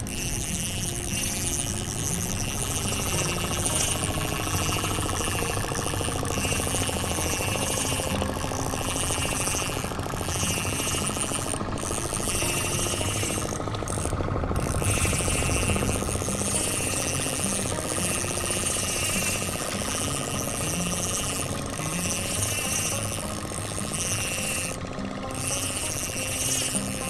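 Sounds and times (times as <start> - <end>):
boat engine thudding: 0.0 - 27.0.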